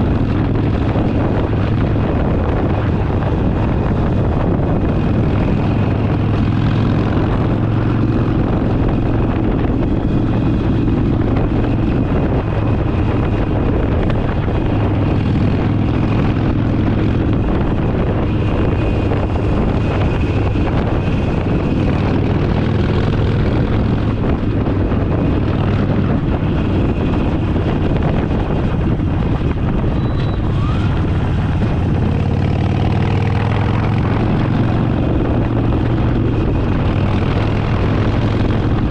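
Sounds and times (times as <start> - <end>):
motorcycle engine drone: 0.0 - 38.9
road noise: 0.0 - 38.9.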